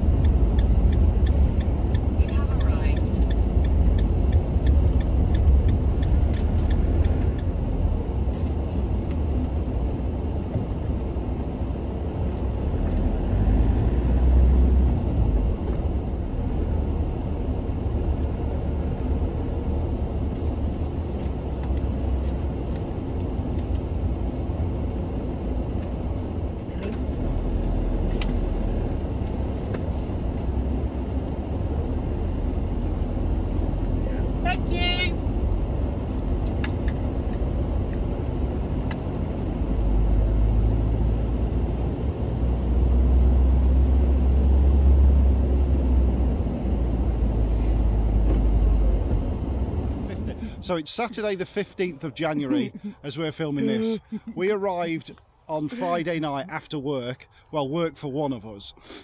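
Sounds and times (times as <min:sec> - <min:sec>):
van engine and tyres rumbling: 0:00.0 - 0:59.0.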